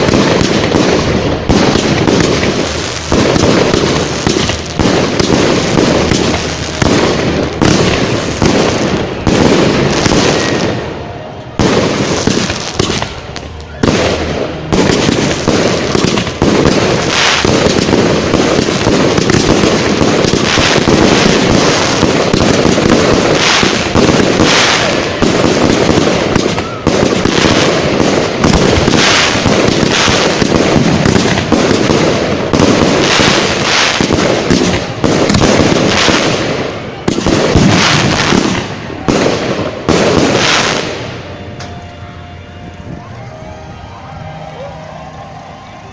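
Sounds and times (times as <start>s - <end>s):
fireworks bangs and crackle: 0.0s - 43.4s.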